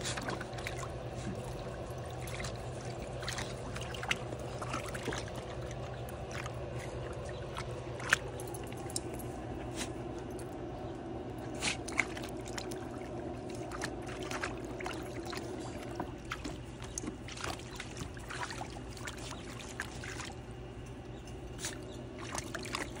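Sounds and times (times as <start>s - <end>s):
puppies splashing in water: 0.0s - 23.0s
steady low hum: 0.0s - 23.0s.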